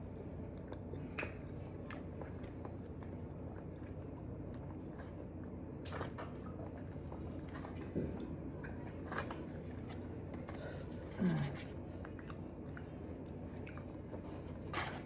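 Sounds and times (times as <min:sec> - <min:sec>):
low background hum: 0:00.0 - 0:15.0
person chewing soft food: 0:00.0 - 0:15.0.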